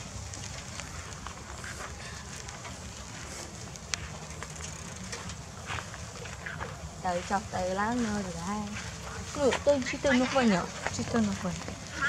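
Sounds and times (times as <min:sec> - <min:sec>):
bicycle rolling over rough ground: 0:00.0 - 0:12.0.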